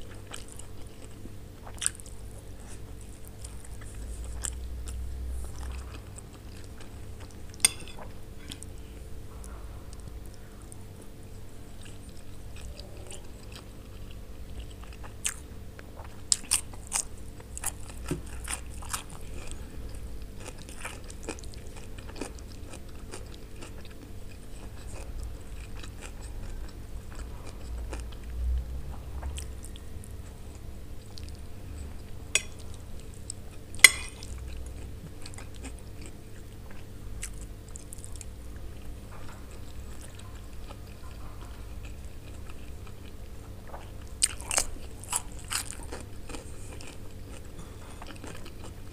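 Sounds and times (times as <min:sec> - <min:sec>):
chewing and biting macaroni: 0:00.0 - 0:08.7, 0:11.6 - 0:48.9.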